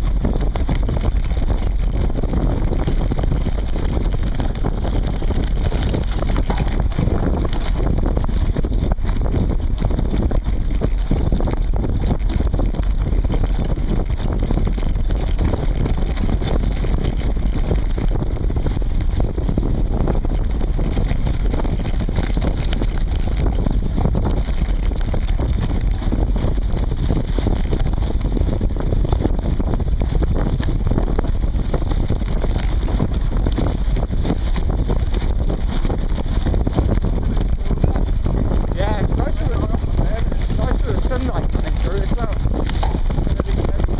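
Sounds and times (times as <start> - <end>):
bike frame rattling: 0.0 - 43.9
tyres rumbling on dirt: 0.0 - 43.9.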